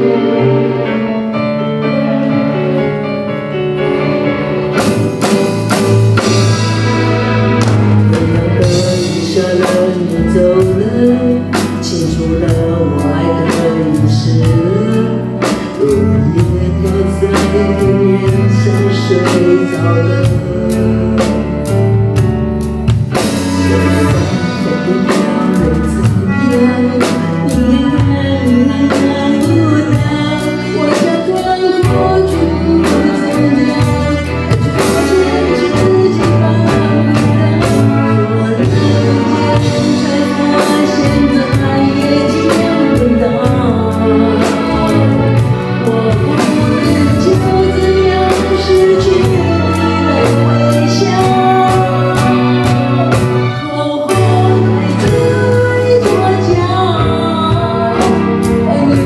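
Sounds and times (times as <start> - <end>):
musical accompaniment with beat: 0.0 - 59.0
woman singing pop ballad: 8.4 - 21.8, 23.7 - 59.0.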